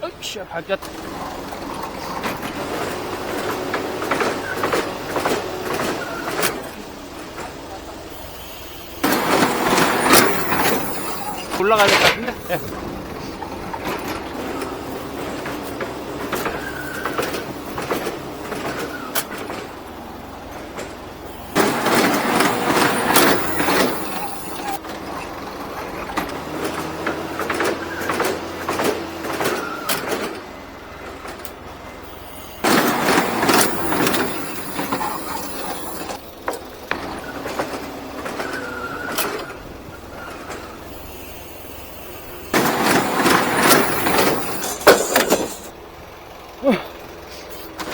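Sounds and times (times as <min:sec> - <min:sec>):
lift squealing and clanking: 0:00.0 - 0:47.9
loud noisy lift operation: 0:00.0 - 0:47.9
truck engine running: 0:00.0 - 0:47.9.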